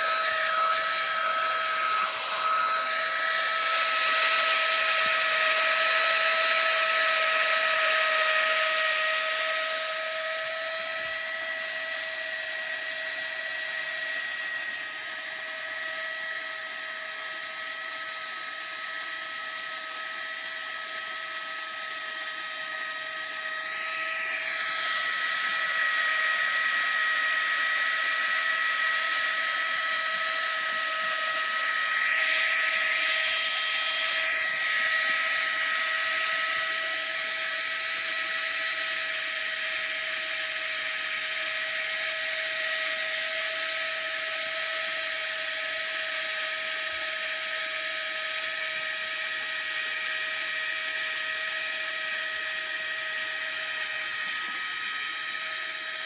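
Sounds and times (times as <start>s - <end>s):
electric air pump whining: 0.0s - 56.0s.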